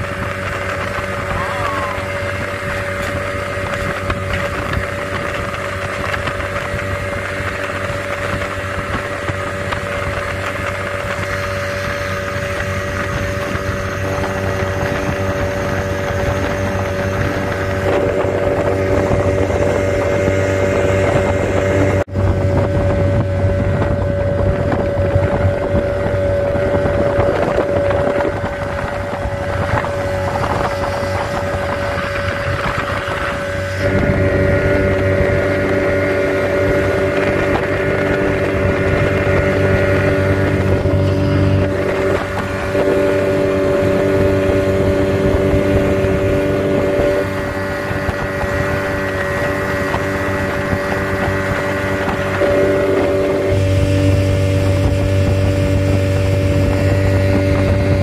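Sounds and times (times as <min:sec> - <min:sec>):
outboard motor droning: 0:00.0 - 0:58.0
water rushing: 0:00.0 - 0:58.0
wind on microphone: 0:00.0 - 0:58.0.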